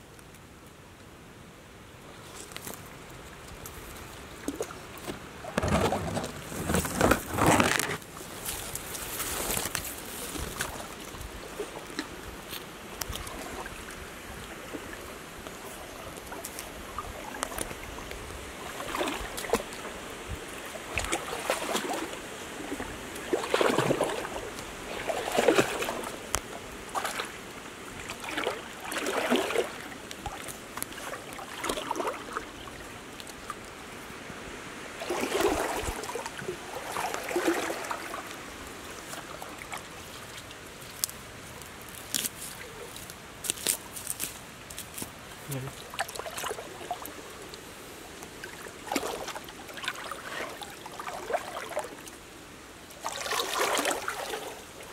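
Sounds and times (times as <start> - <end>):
water splashing and trickling: 2.2 - 54.9.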